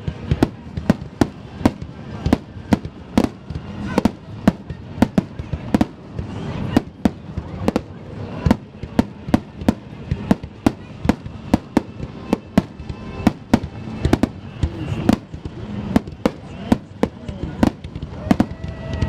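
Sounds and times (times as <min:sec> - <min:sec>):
fireworks bursting with sharp bangs: 0:00.0 - 0:19.0
rumbling fireworks wash: 0:00.0 - 0:19.0.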